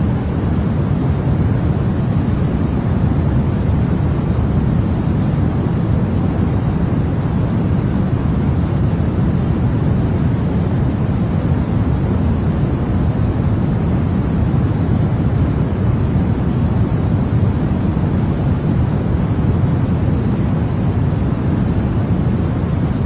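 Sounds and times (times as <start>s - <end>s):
white noise rushing: 0.0s - 23.0s.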